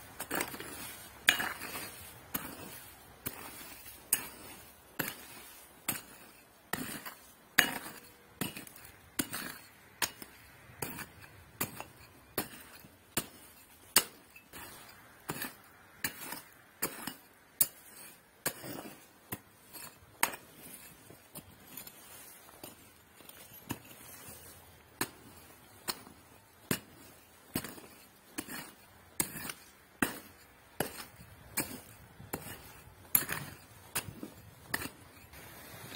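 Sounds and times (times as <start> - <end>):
pick striking stony soil: 0.0 - 35.9
rattle of dirt and pebbles: 0.0 - 35.9.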